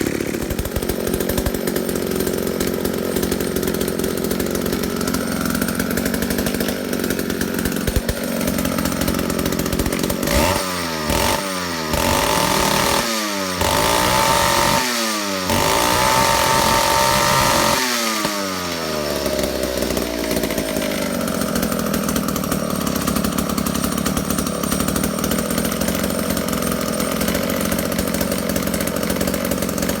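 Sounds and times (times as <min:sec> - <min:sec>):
chainsaw engine idling and revving: 0:00.0 - 0:30.0.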